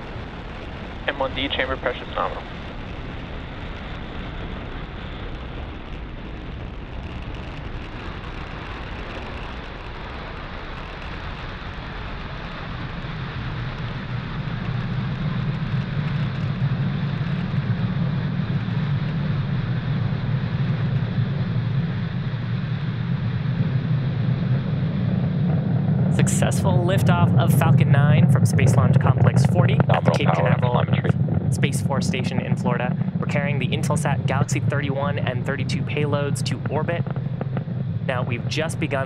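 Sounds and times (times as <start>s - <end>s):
rocket engines rushing: 0.0s - 39.0s
strong low rumble: 0.0s - 39.0s.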